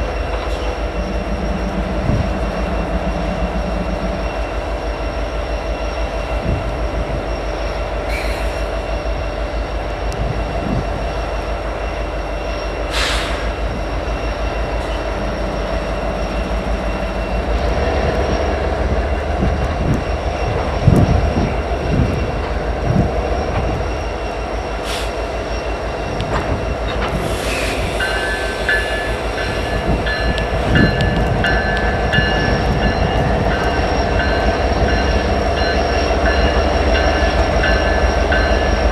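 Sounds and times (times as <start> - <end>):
locomotive engine rumble: 0.0 - 38.9.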